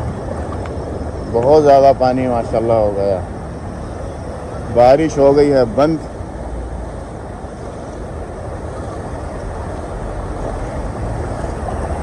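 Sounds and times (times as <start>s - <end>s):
traffic driving through floodwater: 0.0s - 12.0s.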